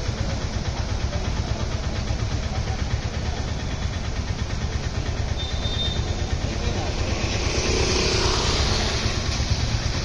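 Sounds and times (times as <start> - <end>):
traffic noise on wet street: 0.0 - 10.0
vehicle engine running: 0.0 - 10.0.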